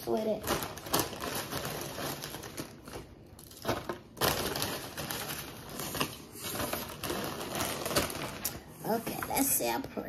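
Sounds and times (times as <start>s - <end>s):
plastic chip bag crinkling: 0.1s - 9.2s.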